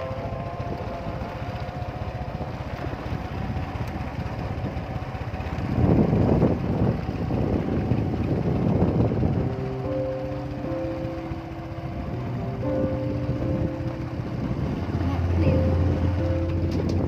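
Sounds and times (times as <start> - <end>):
vehicle engine rumble: 0.0 - 17.0
wind buffeting microphone: 0.0 - 17.0.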